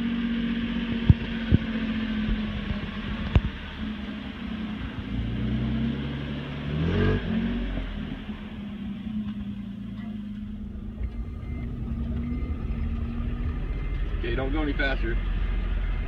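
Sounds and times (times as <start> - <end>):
pickup truck engine revving: 0.0 - 16.0
truck driving on dirt track: 0.0 - 16.0.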